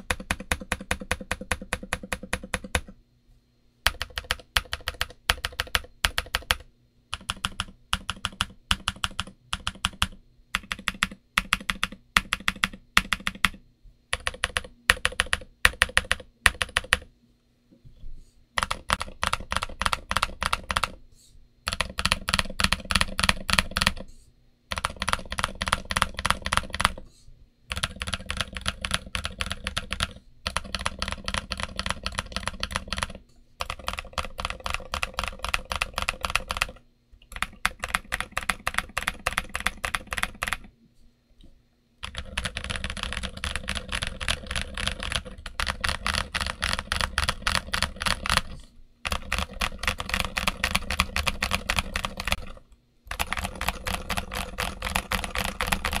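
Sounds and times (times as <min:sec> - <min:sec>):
typing on mechanical keyboard: 0:00.0 - 0:03.0, 0:03.8 - 0:17.1, 0:18.6 - 0:21.0, 0:21.7 - 0:24.1, 0:24.7 - 0:27.0, 0:27.7 - 0:40.7, 0:42.0 - 0:56.0.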